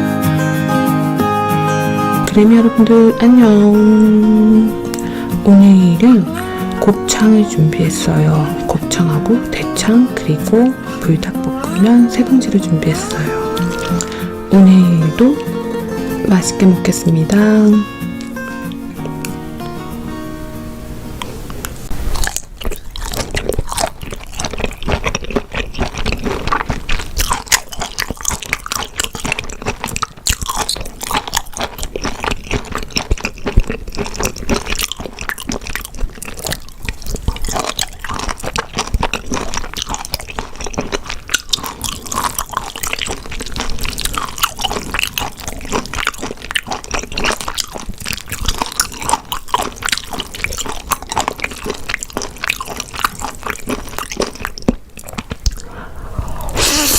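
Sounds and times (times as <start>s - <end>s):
person chewing and biting: 3.8s - 19.4s, 21.2s - 56.9s.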